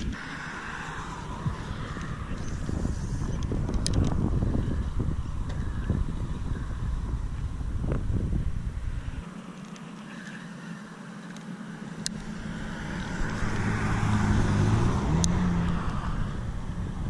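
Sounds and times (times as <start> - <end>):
vehicle passing: 0.0 - 9.2, 11.1 - 17.0.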